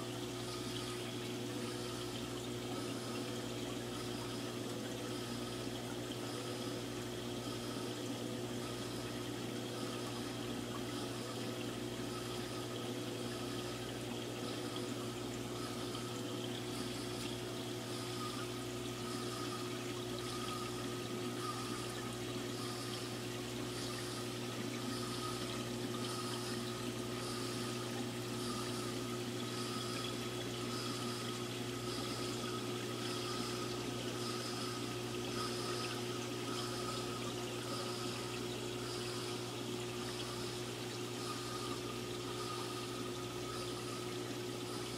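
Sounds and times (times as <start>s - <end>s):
aquarium pump hum: 0.0s - 44.9s
faint pulsing hiss: 0.0s - 44.9s
water trickling and splashing: 0.0s - 44.9s.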